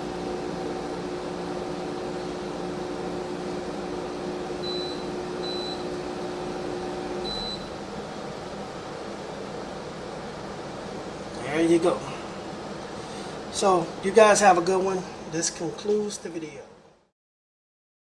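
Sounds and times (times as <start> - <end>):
air conditioner compressor humming: 0.0 - 17.1.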